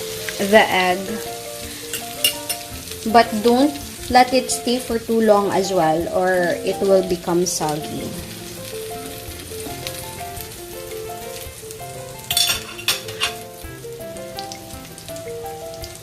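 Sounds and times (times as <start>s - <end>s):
bread sizzling in a hot pan: 0.0s - 16.0s
simple tune of held notes: 0.0s - 16.0s.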